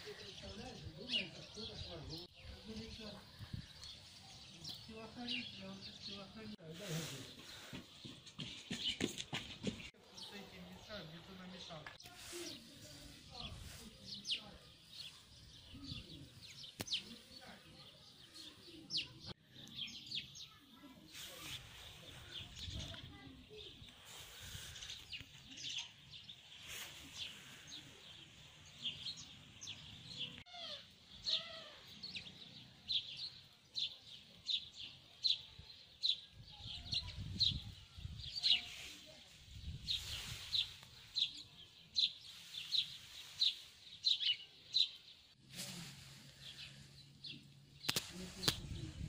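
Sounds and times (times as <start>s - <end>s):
songbird chirping: 0.0s - 49.0s.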